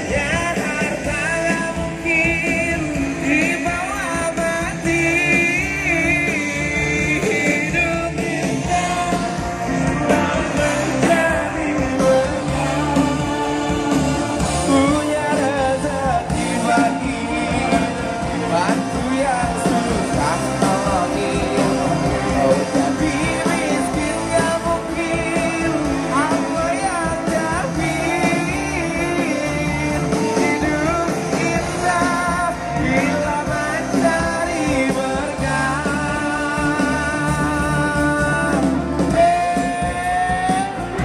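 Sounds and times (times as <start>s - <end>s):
live band music: 0.0s - 41.0s
singer holding long notes: 0.0s - 41.0s.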